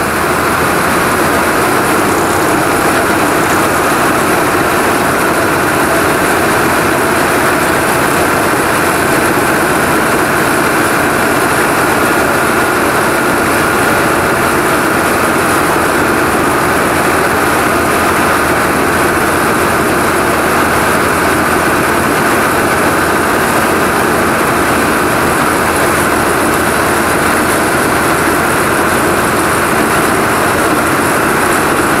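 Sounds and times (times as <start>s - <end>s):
combine harvester running: 0.0s - 32.0s
grain pouring into truck: 0.0s - 32.0s.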